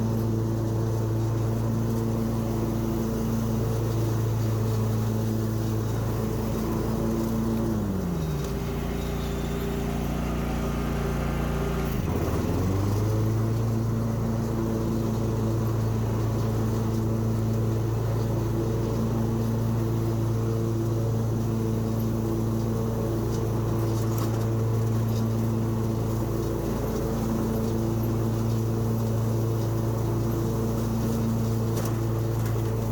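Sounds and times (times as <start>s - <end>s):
mower engine running: 0.0s - 32.9s.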